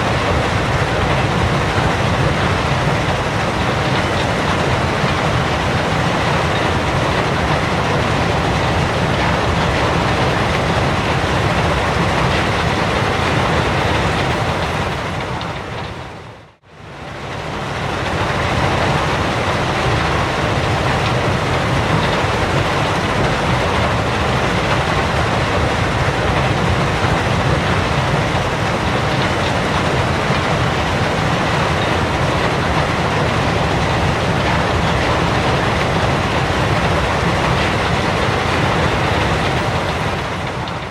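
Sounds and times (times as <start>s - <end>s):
machinery rumble and rattle: 0.0s - 40.9s.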